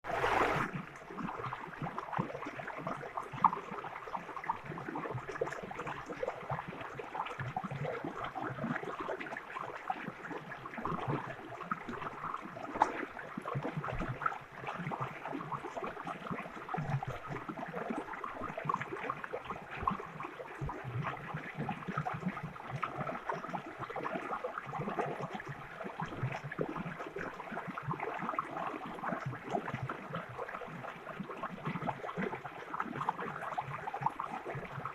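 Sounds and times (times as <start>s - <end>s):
stream water gurgling: 0.0s - 34.9s.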